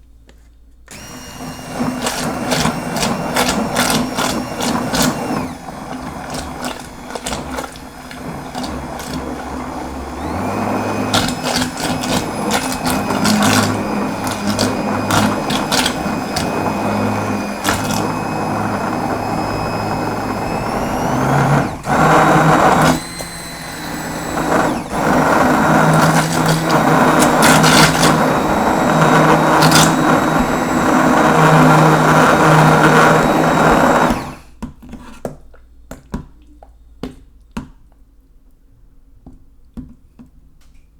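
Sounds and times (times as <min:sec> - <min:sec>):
hand blender motor whining: 0:00.9 - 0:34.5.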